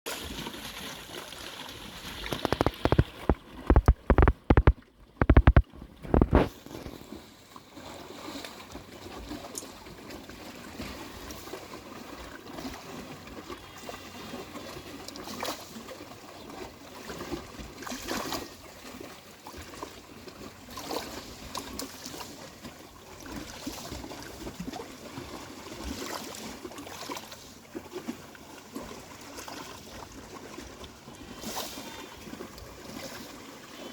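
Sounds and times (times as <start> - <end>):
small waves lapping on shore: 0.1 - 33.9.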